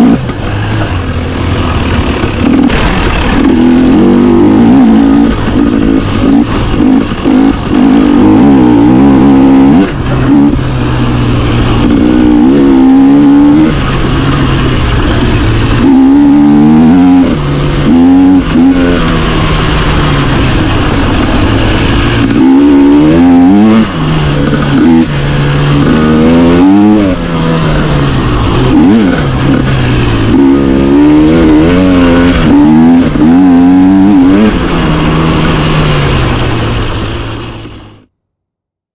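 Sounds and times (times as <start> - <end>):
dirt bike engine revving: 0.0 - 37.7
steady rushing noise: 0.0 - 38.1.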